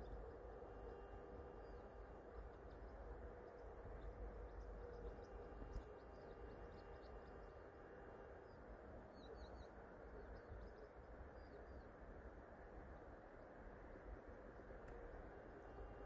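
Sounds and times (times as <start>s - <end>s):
faint low outdoor rumble: 0.0s - 16.0s.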